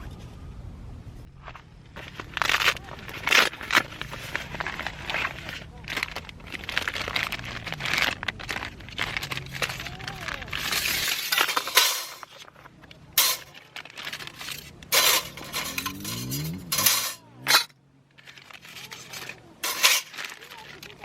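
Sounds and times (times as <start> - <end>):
camp gear clinking and knocking: 1.3 - 21.0
rustling: 1.3 - 21.0.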